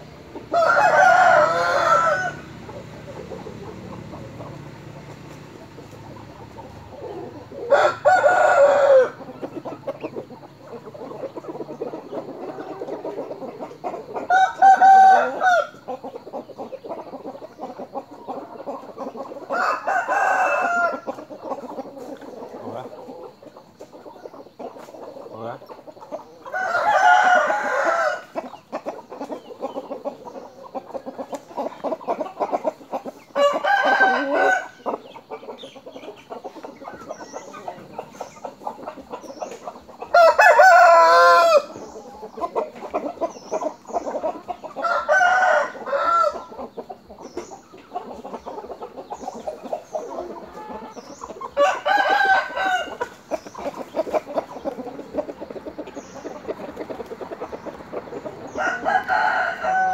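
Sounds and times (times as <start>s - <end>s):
rooster clucking: 0.0s - 59.9s
roosters crowing: 0.0s - 59.9s.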